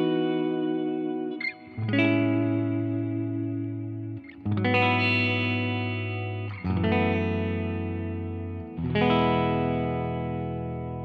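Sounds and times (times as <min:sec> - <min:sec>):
electric guitar chords strummed: 0:00.0 - 0:11.0.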